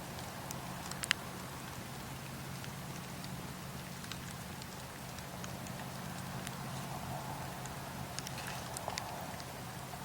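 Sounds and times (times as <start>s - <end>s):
fire pops: 0.0s - 9.7s
wood fire crackling: 0.0s - 10.0s.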